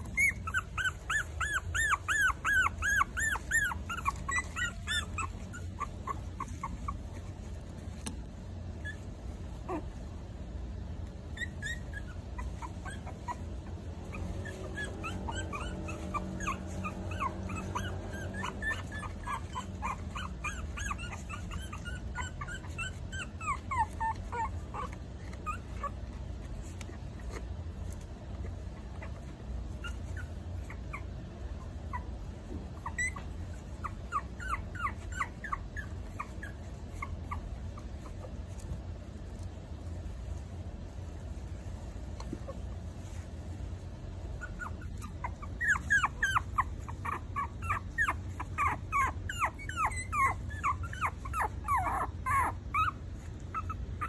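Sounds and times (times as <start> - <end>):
puppies whimpering: 0.0 - 7.8, 11.0 - 39.5, 44.0 - 54.0.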